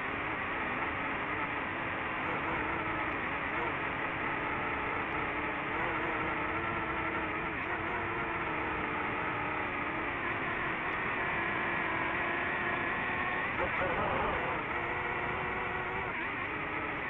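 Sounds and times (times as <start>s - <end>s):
drone propellers whirring: 0.7s - 17.0s.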